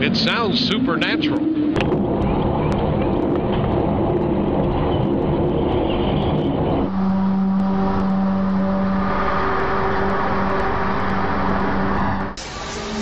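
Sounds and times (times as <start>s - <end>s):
low droning hum: 0.0s - 13.0s.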